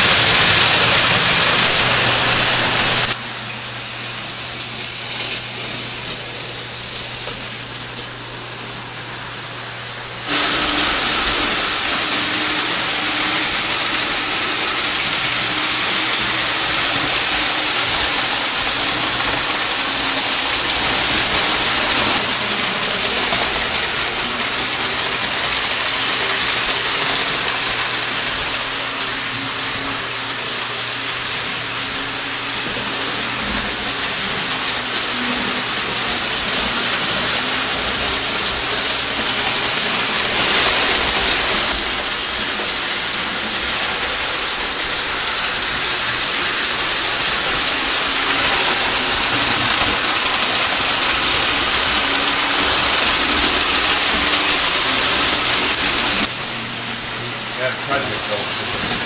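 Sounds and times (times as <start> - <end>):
toy train wheels rattling on track: 4.3 - 59.0.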